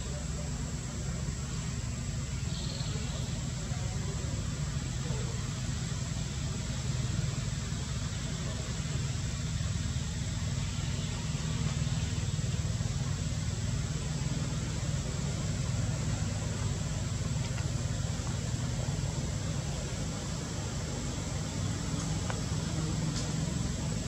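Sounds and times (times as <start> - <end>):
even hiss: 0.0 - 24.0
low mechanical drone: 0.0 - 24.0.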